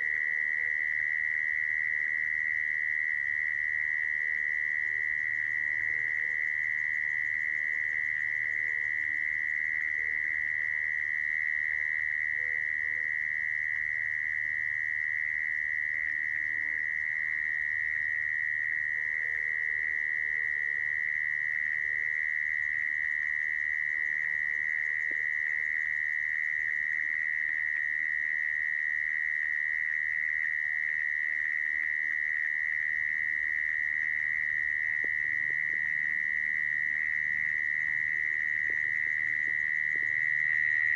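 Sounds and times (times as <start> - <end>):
mole cricket trill: 0.0 - 40.9.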